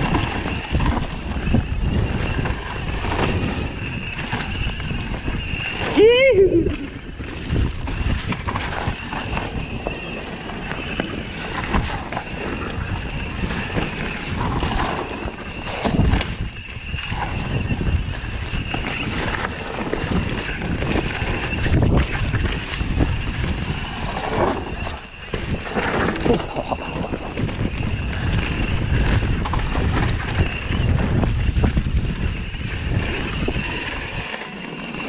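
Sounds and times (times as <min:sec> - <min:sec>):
bike tyre noise on dirt: 0:00.0 - 0:35.0
wind buffeting microphone: 0:00.0 - 0:35.0.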